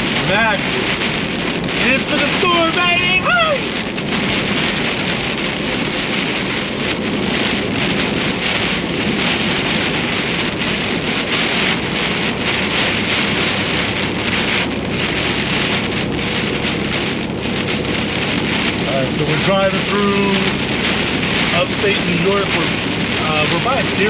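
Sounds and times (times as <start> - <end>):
heavy rain on a truck: 0.0 - 24.0.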